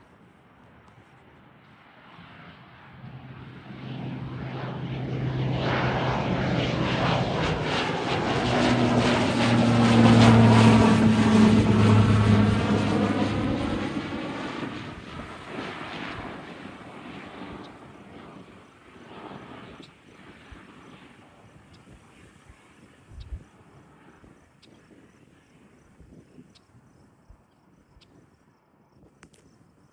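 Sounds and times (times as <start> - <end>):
propeller drone: 0.0 - 26.5.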